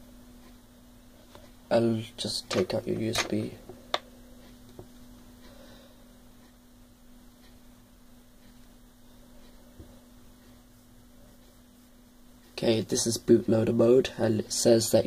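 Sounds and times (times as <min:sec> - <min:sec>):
faint steady low hum: 0:00.0 - 0:15.0.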